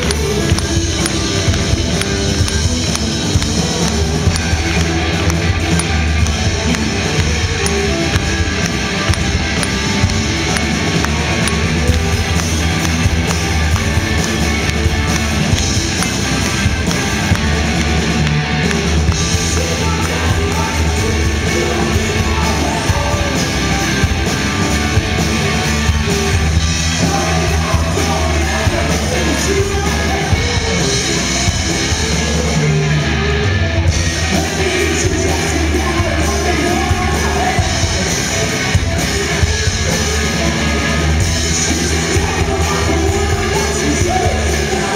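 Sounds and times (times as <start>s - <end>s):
bass guitar: 0.0s - 44.9s
drum kit: 0.0s - 44.9s
electric guitars: 0.0s - 44.9s.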